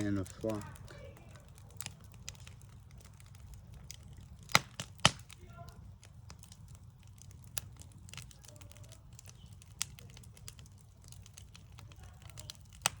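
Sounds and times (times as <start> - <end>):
low background rumble: 0.0 - 13.0
wood fire crackling: 0.0 - 13.0.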